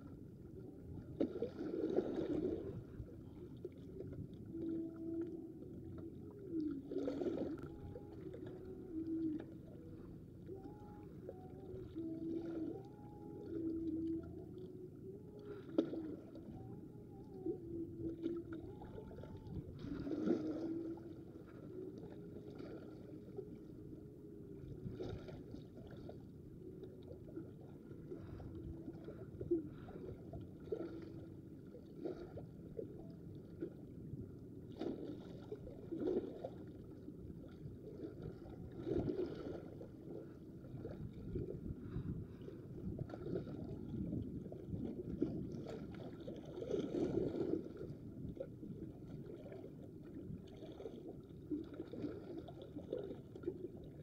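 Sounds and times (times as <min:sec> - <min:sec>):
seawater lapping against rocks: 0:00.0 - 0:54.0.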